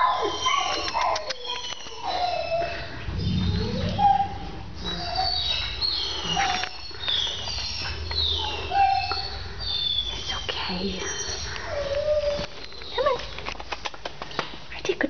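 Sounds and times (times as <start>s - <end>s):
puppies whining: 0.0s - 13.4s.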